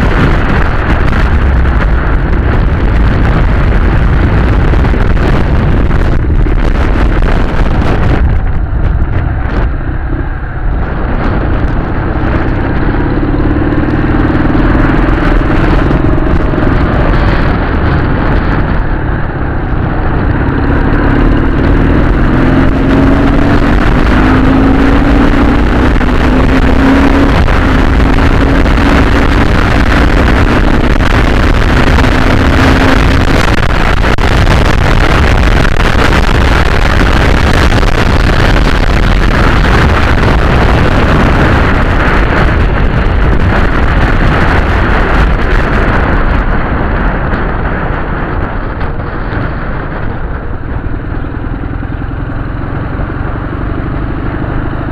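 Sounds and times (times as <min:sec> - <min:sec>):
loud rushing noise: 0:00.0 - 0:54.9
motorcycle engine running: 0:00.0 - 0:54.9.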